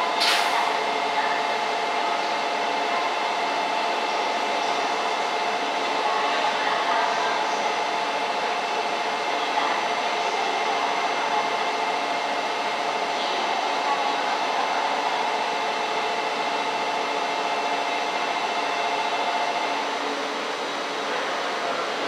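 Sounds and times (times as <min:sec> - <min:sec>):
train equipment whirring hum: 0:00.0 - 0:22.0.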